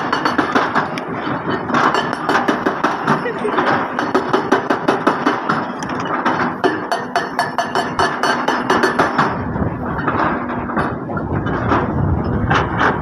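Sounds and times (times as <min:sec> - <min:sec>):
hydraulic rock breaker hammering: 0:00.0 - 0:13.0.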